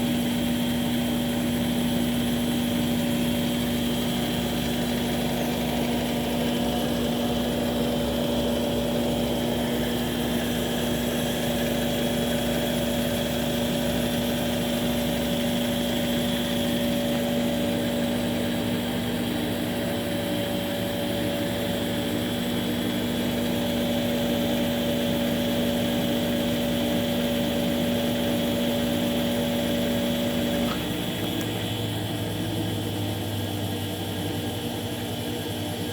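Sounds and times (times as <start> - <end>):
washing machine spinning: 0.0 - 35.9.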